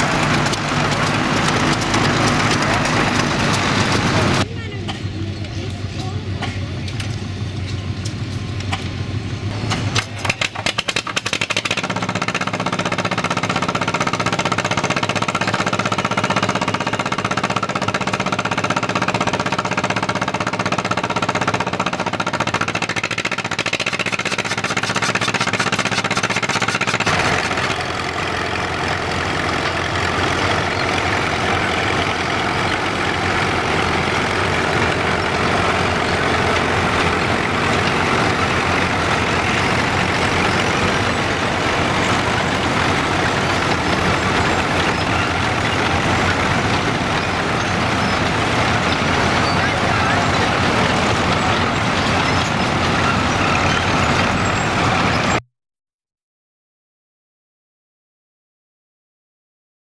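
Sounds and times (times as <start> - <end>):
diesel tractor driving: 0.0 - 55.4
diesel tractor engine idling: 0.0 - 55.4.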